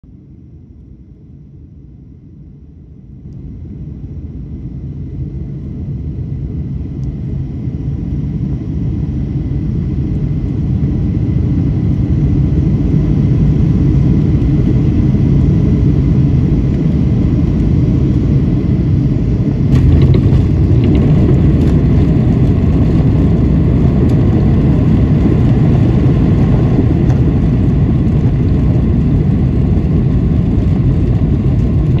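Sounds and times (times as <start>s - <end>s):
jet engines roaring on landing: 4.6s - 32.0s.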